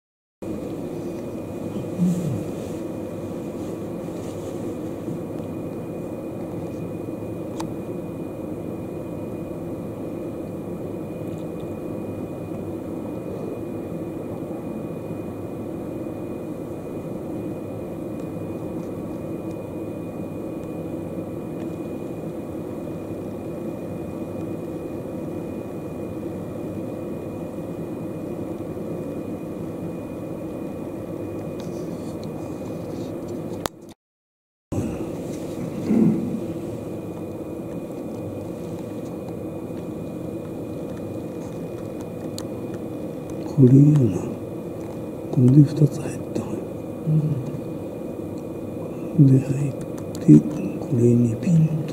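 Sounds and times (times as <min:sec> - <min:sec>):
thin high whine: 0:00.4 - 0:33.6, 0:34.7 - 0:51.9
low background rumble: 0:00.5 - 0:33.1, 0:34.7 - 0:51.9.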